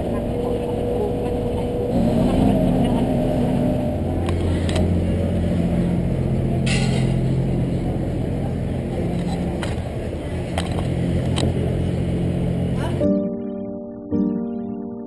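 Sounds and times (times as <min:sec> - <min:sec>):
boat engine drone: 0:00.0 - 0:14.4.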